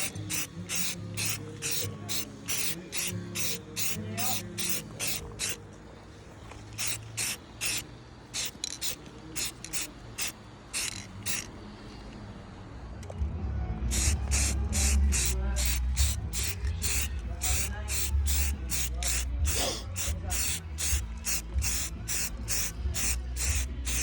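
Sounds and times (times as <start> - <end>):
aerosol can spraying bursts: 0.0 - 5.6, 6.7 - 7.8, 8.4 - 11.5, 13.9 - 24.0.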